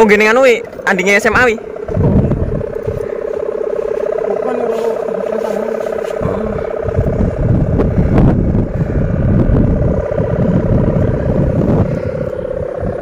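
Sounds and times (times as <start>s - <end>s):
kite hummer droning: 0.0s - 13.0s
wind buffeting microphone: 0.0s - 13.0s.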